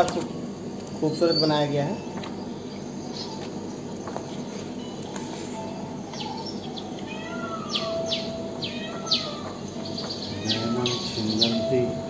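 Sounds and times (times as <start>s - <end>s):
recorded birdsong chirps: 0.0s - 12.0s.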